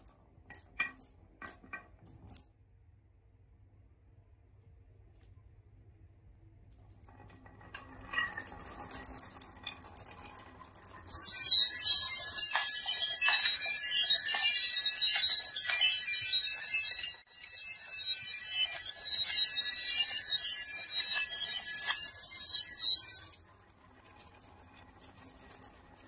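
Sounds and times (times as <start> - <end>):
marbles rolling and clattering: 0.5 - 2.4, 6.7 - 26.0.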